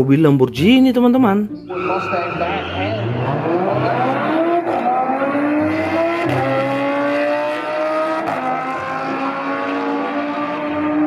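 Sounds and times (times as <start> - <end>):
car engines accelerating hard: 1.8 - 11.0.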